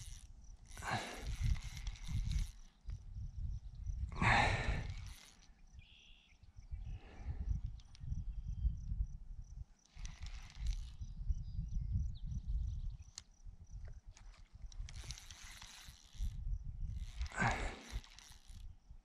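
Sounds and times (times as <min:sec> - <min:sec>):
insects trilling: 0:00.0 - 0:19.0
wind and handling rumble: 0:00.0 - 0:19.0.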